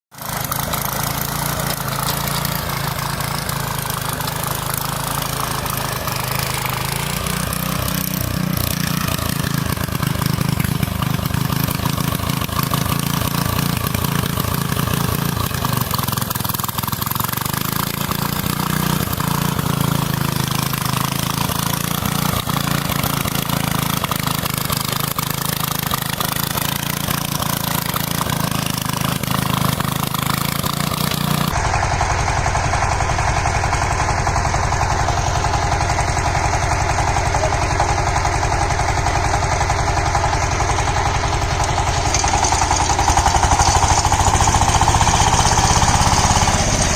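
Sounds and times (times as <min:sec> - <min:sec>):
small tractor engine running: 0:00.1 - 0:46.9.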